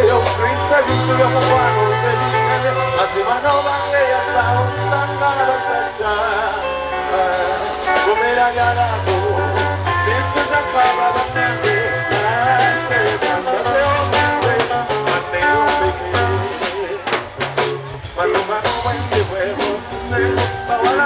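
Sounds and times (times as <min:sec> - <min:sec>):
man singing into a microphone: 0:00.0 - 0:17.4, 0:18.0 - 0:21.0
drum kit beat: 0:00.0 - 0:21.0
electric bass notes: 0:00.0 - 0:21.0.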